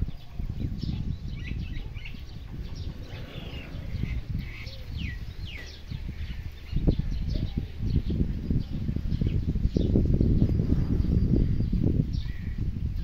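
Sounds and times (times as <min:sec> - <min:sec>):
birds chirping: 0:00.0 - 0:13.0
steady low rumble: 0:01.1 - 0:12.4.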